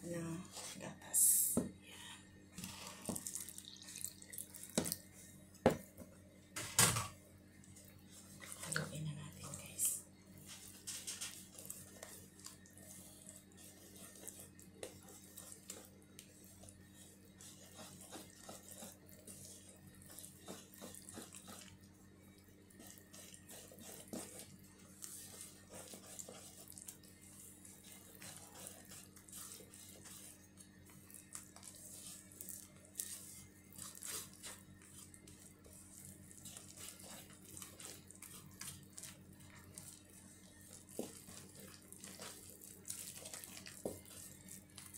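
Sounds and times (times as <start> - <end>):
batter being stirred in a bowl: 0.0 - 44.9.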